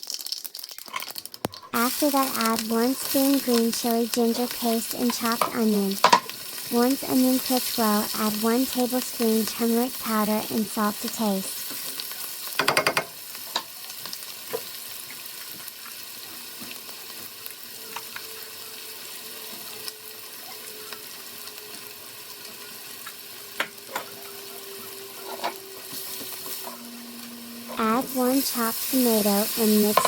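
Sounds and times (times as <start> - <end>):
onion frying in oil: 0.0 - 30.0.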